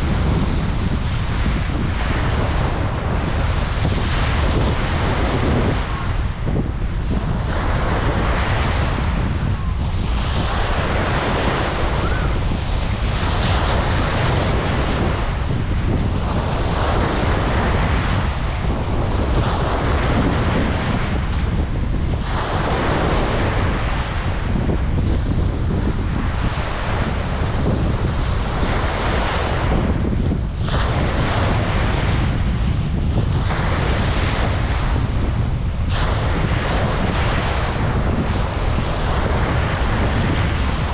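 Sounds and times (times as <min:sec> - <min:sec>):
ocean surf breaking: 0:00.0 - 0:40.9
wind rumble on microphone: 0:00.0 - 0:40.9.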